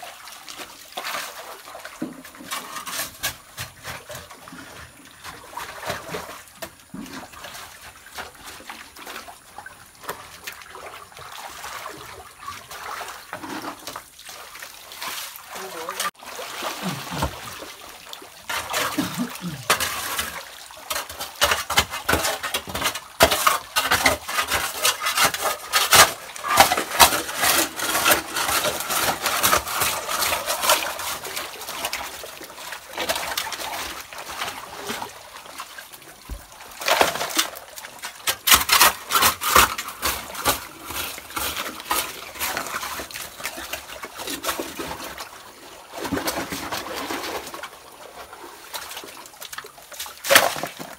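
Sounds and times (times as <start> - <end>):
water splashing and trickling: 0.0 - 50.9.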